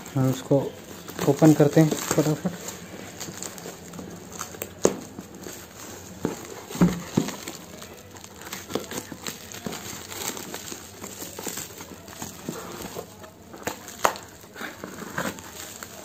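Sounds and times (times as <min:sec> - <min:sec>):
plastic wrap crinkling: 0:00.0 - 0:16.0.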